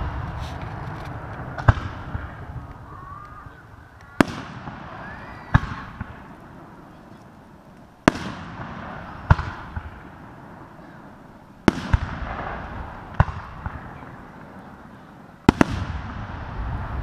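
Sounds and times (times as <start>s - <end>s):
fireworks bangs with echo: 0.0s - 17.0s.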